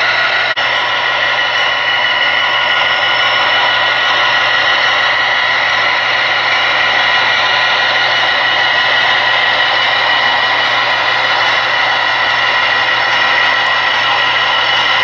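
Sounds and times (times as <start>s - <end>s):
model locomotive engine sound: 0.0s - 15.0s
model train rolling on track: 0.0s - 15.0s.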